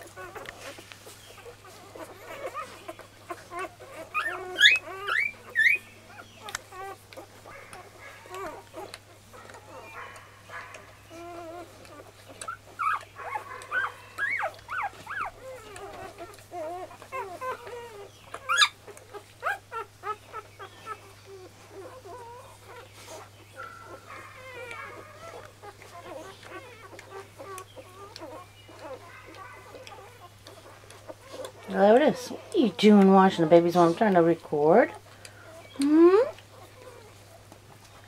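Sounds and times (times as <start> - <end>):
puppies squeaking and whimpering: 0.0 - 38.0.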